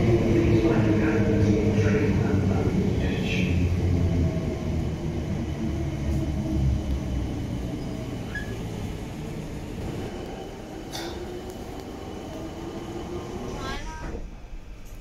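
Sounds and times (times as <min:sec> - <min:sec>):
electric train rumbling slowly: 0:00.0 - 0:15.0.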